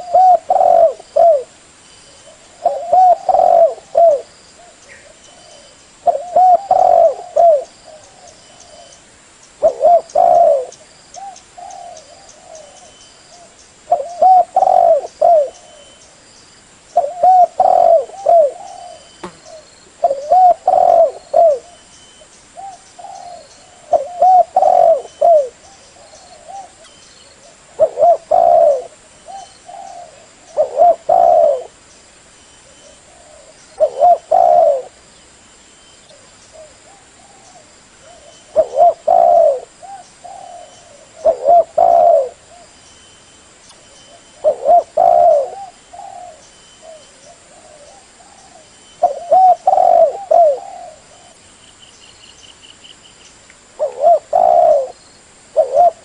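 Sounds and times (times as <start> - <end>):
dove cooing: 0.0 - 1.6, 2.2 - 9.0, 9.6 - 16.0, 17.0 - 21.9, 22.6 - 31.8, 32.6 - 35.0, 36.1 - 42.8, 44.1 - 51.4, 53.8 - 56.0
faint high chirping: 0.0 - 56.0.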